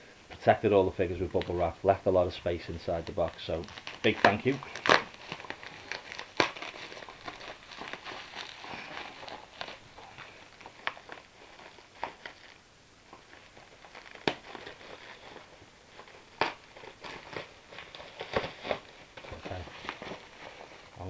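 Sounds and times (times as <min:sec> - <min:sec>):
plastic packaging crinkling: 0:00.4 - 0:21.0.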